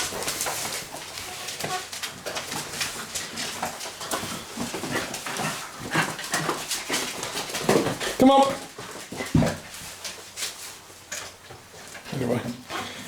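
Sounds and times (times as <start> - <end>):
paws clicking and scuffling: 0.0 - 13.0.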